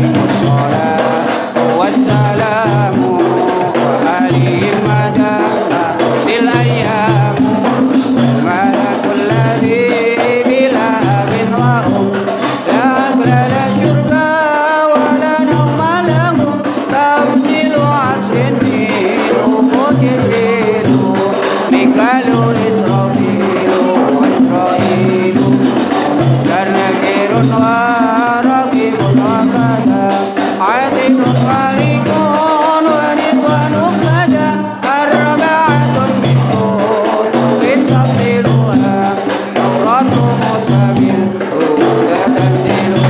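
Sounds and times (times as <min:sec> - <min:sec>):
frame drums: 0:00.0 - 0:43.0
group singing a devotional chant: 0:00.0 - 0:43.0
jingling percussion: 0:00.0 - 0:43.0.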